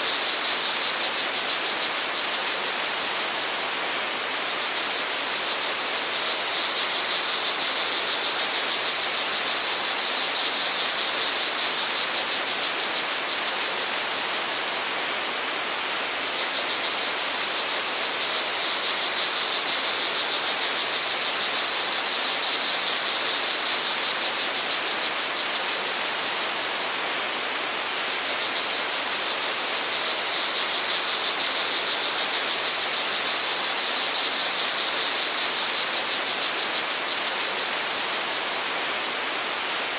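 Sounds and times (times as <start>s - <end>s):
rushing water: 0.0s - 39.9s
crickets trilling: 0.1s - 15.1s, 16.2s - 27.4s, 28.0s - 38.8s.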